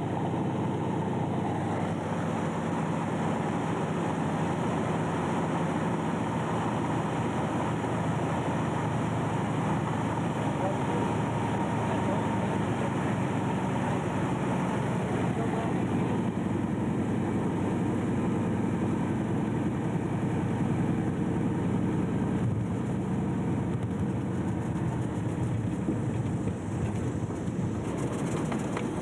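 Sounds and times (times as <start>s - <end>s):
floatplane engine running: 0.0s - 29.0s.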